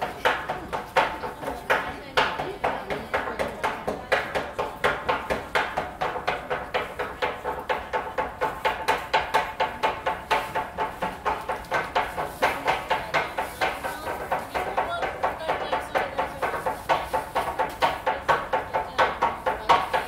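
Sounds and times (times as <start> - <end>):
knives chopping on wooden board: 0.2 - 20.0.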